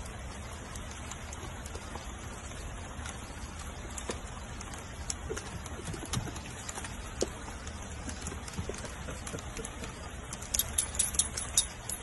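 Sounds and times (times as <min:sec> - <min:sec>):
drips and small taps: 0:00.0 - 0:12.0
rain on a wooden deck: 0:00.0 - 0:12.0.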